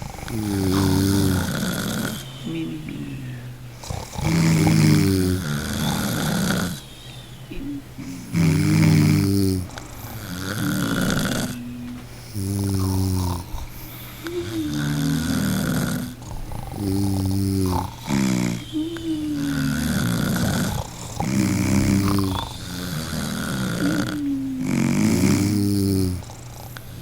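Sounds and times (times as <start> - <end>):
person snoring: 0.0 - 7.0, 8.0 - 27.0.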